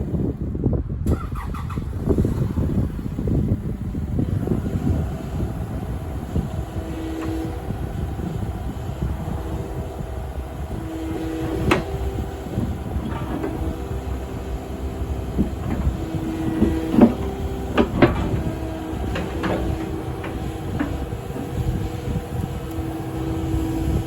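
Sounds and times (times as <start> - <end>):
excavator diesel engine running: 1.3 - 24.0.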